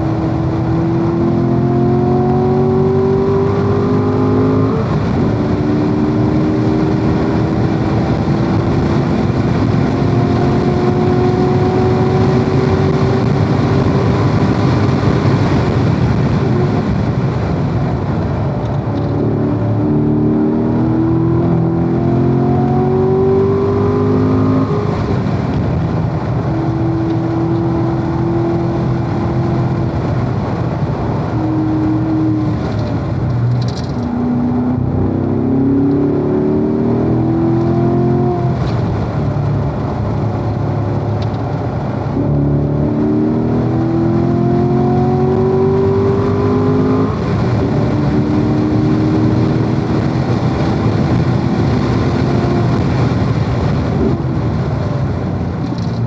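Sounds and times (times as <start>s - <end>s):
car engine accelerating: 0.0s - 56.0s
wind and tyre noise: 0.0s - 56.0s.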